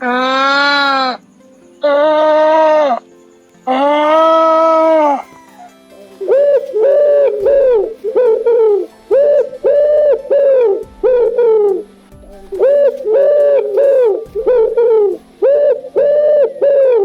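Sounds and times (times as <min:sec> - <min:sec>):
animal calling: 0:00.0 - 0:17.0.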